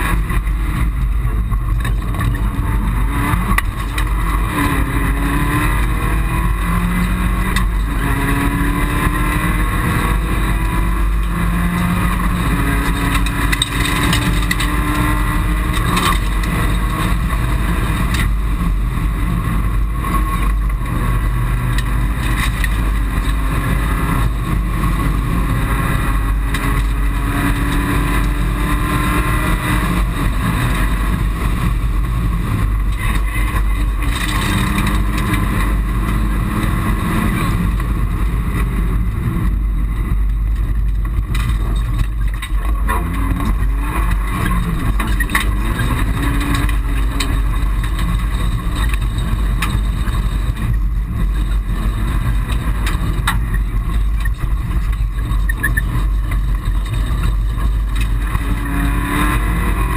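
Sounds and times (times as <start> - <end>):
car engine accelerating: 0.0 - 59.9
road and tyre noise: 0.0 - 59.9.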